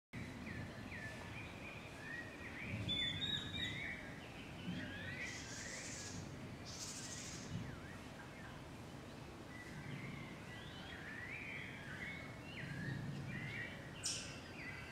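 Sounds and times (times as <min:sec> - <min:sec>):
small birds chirping: 0:00.2 - 0:14.9.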